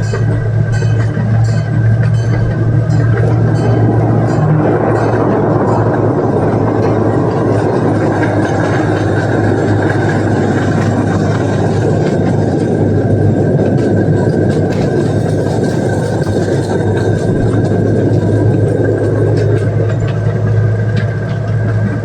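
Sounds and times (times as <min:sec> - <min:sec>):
train cars rolling: 0:00.0 - 0:22.0
train engine hum: 0:00.0 - 0:22.0.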